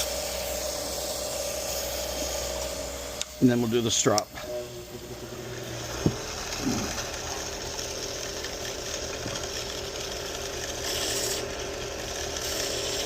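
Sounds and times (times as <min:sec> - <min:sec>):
blade hissing on sharpener: 0:00.0 - 0:13.0
knife sharpening machine humming: 0:00.0 - 0:13.0.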